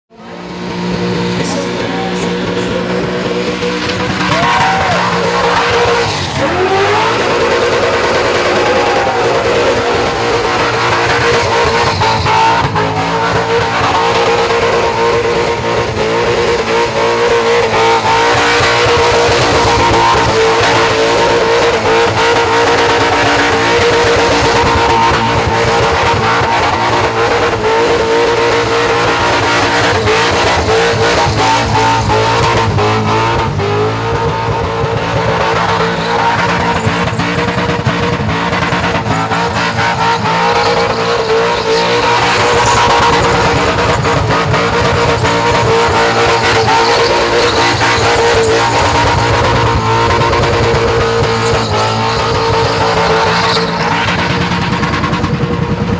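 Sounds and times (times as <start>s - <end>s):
car engine at high revs: 0.0s - 55.9s
tyres spinning and screeching: 0.1s - 55.9s.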